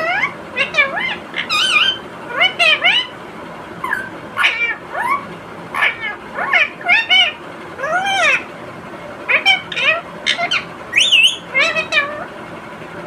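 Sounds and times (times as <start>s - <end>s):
parakeet calling: 0.0s - 3.2s, 3.8s - 8.6s, 9.2s - 12.4s.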